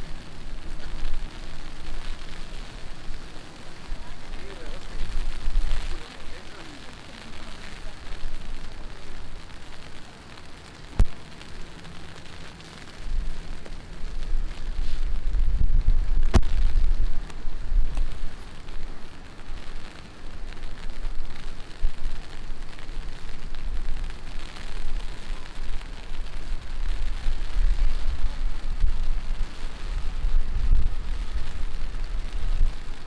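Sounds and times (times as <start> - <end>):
deep uneven rumble: 0.0 - 33.0
heavy rain: 0.0 - 33.0.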